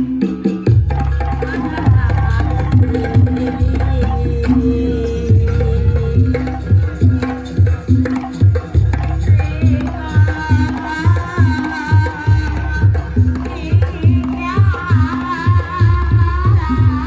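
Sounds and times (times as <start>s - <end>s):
hand drums beating: 0.0s - 17.0s.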